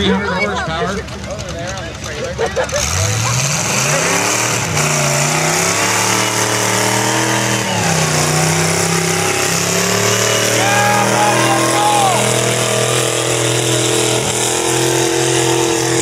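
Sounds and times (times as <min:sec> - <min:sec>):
tractor engine running hard: 0:00.0 - 0:16.0.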